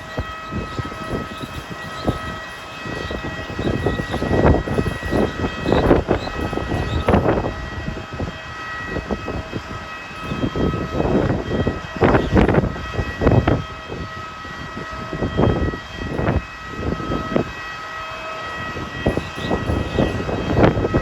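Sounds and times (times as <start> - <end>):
gusty wind buffeting microphone: 0.0 - 21.0
high-pitched machine whine: 0.0 - 21.0.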